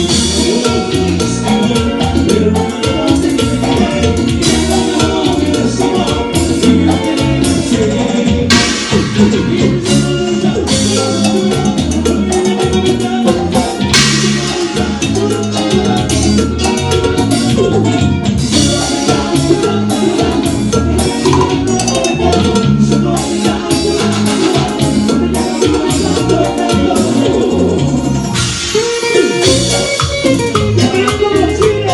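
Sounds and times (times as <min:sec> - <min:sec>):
live latin band music: 0:00.0 - 0:31.9.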